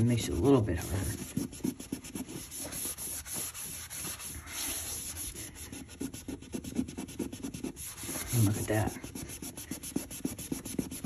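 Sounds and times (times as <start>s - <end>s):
rag scrubbing vinyl floor: 0.0s - 11.0s.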